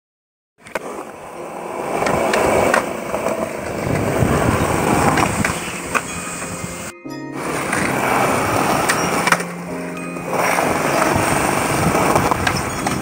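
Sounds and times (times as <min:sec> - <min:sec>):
skateboard grinding on ledge: 0:00.6 - 0:13.0
skateboard wheels rolling on concrete: 0:00.6 - 0:13.0.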